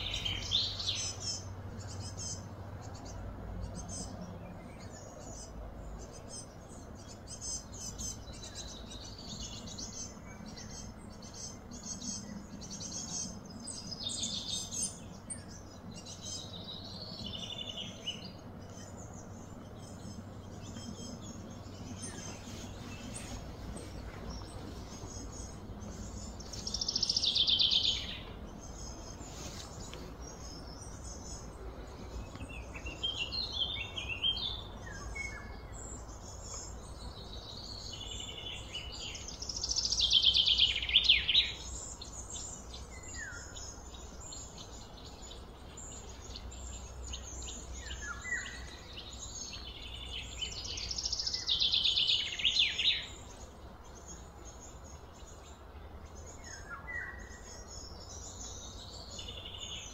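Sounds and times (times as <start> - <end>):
birds chirping and calling: 0.0 - 59.9
low background hum: 0.0 - 59.9.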